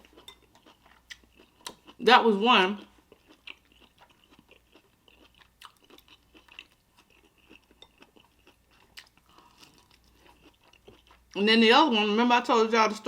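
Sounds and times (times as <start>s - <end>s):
chewing and eating: 0.0s - 2.1s, 2.7s - 11.4s.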